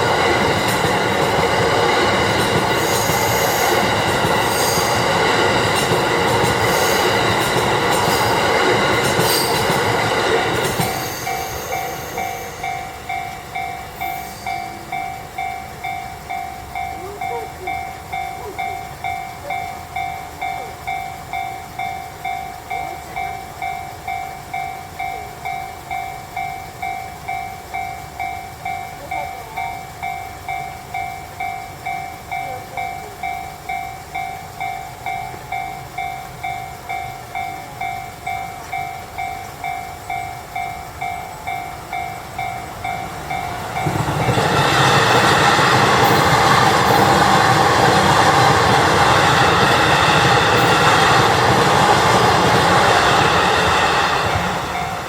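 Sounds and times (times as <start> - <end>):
level crossing bell ringing: 0.0 - 55.0
train passing rumble: 0.0 - 55.0.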